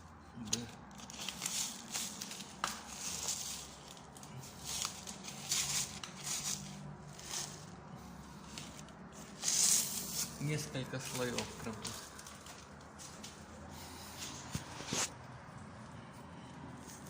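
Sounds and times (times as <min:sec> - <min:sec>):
rustling and crinkling material: 0:00.4 - 0:16.2.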